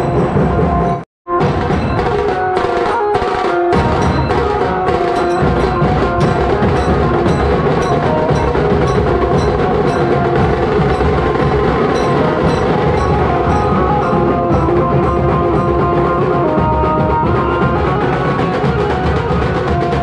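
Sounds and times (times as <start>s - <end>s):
drums beating: 0.0s - 20.0s
sustained melody line: 0.0s - 20.0s.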